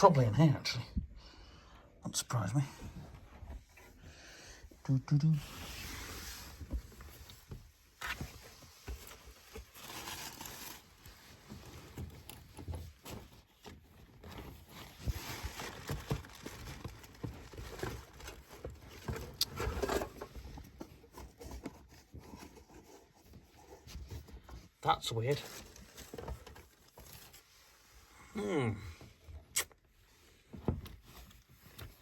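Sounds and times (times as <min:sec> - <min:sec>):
rustling of objects handled: 0:02.3 - 0:28.3, 0:28.9 - 0:32.0.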